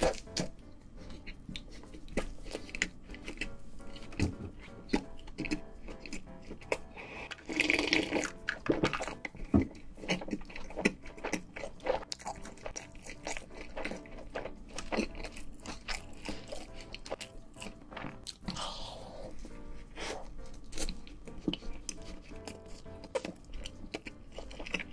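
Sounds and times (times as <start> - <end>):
wet chewing: 0.0 - 24.9.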